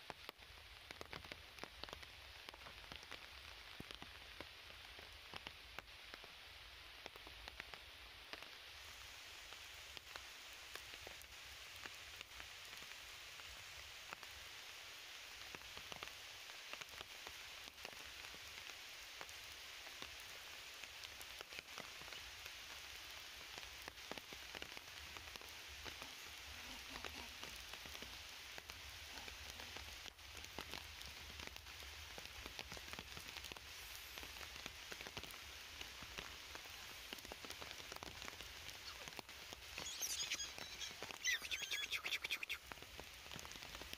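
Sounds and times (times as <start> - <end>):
rain on foliage: 0.0 - 43.9.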